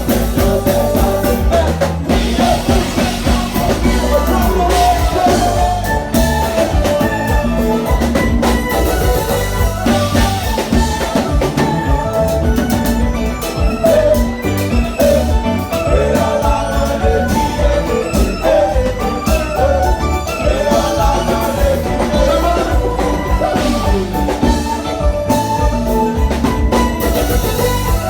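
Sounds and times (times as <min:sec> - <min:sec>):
loud dance music: 0:00.0 - 0:28.0.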